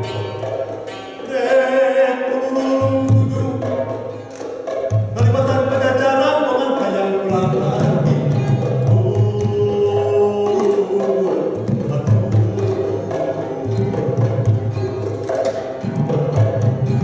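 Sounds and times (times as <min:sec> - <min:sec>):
gamelan ensemble playing: 0:00.0 - 0:17.0.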